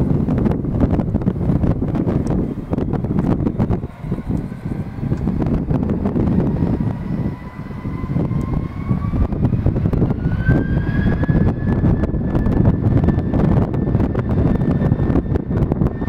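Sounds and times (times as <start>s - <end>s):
jet engine whine rising: 0.0s - 16.0s
wind buffeting microphone: 0.0s - 16.0s.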